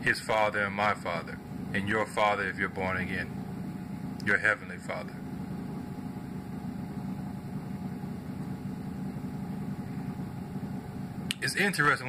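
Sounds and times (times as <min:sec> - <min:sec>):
room ventilation hum: 0:00.0 - 0:12.0.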